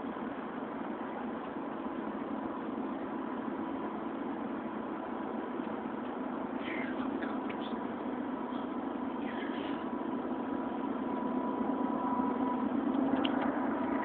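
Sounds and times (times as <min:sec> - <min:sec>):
low droning rumble overhead: 0:00.0 - 0:14.0.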